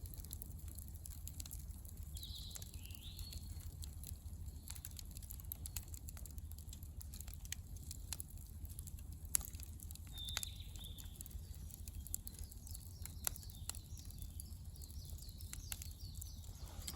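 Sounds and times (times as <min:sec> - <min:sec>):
campfire crackling: 0:00.0 - 0:16.9
low steady rumble: 0:00.0 - 0:16.9.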